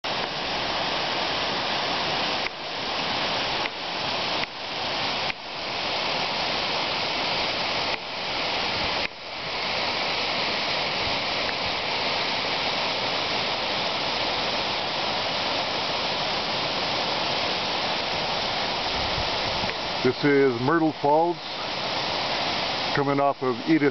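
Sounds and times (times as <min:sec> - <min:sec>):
waterfall rushing down rocks: 0:00.0 - 0:23.9.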